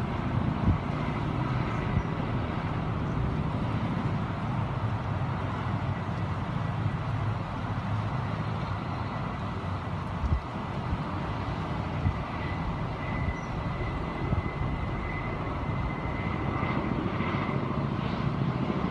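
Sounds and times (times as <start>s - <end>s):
helicopter engine drone and whine: 0.0s - 18.9s
wind buffeting microphone: 0.0s - 18.9s.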